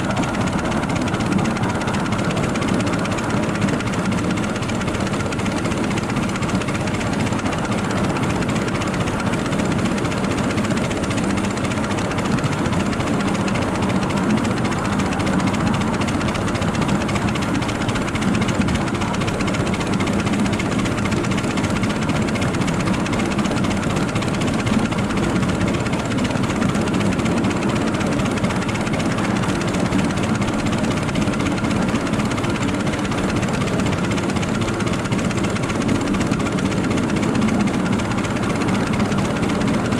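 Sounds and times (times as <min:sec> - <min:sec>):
miniature train running on track: 0:00.0 - 0:39.9.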